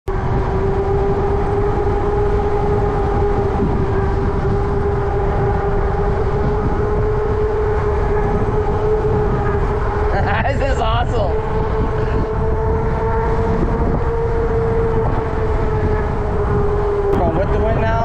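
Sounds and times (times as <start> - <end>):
electric bike motor whining: 0.1 - 18.0
wind rumble on microphone: 0.1 - 18.0.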